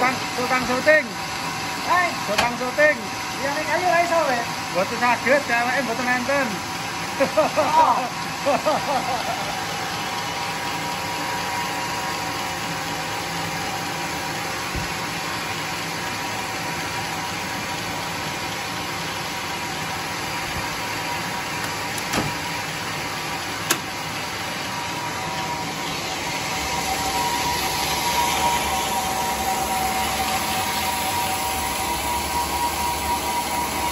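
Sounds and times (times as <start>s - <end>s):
band saw motor droning: 0.0s - 33.9s.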